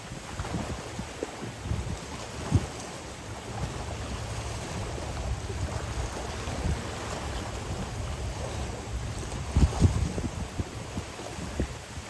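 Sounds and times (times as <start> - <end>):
flowing river water: 0.0 - 12.0
wind buffeting microphone: 0.0 - 12.0.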